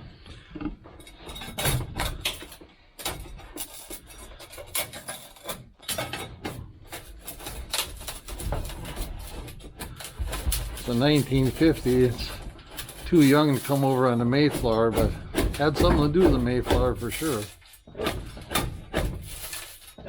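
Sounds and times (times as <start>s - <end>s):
glass pieces clattering: 1.0s - 14.1s, 16.9s - 20.0s
hand tools scraping on glass: 1.1s - 20.0s.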